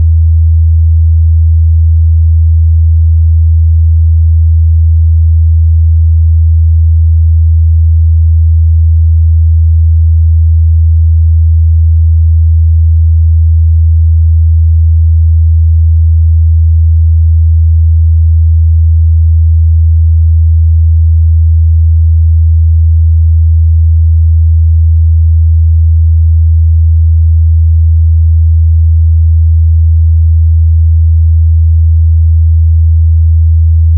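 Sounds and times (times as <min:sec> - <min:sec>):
low sine test tone: 0:00.0 - 0:33.9.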